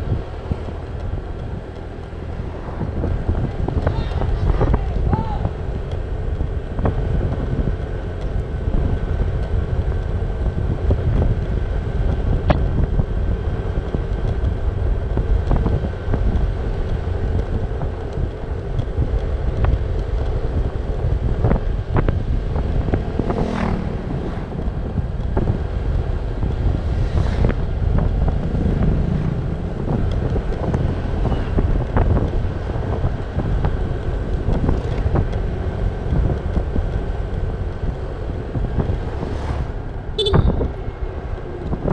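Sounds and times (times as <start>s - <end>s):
scooter engine cruising: 0.0s - 41.9s
wind buffeting microphone: 0.0s - 41.9s.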